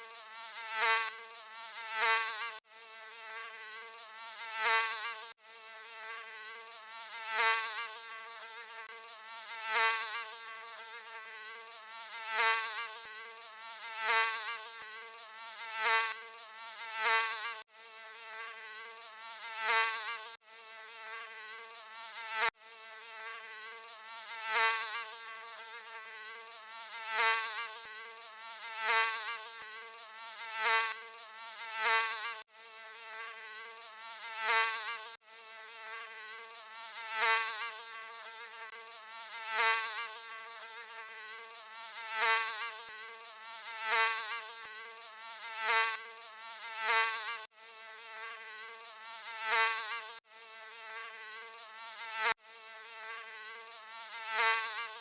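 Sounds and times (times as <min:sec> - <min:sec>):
mosquito buzzing: 0:00.0 - 0:55.0.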